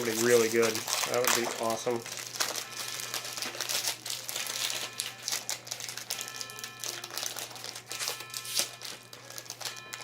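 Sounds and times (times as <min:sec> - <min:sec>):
card packaging crinkling: 0:00.0 - 0:10.0.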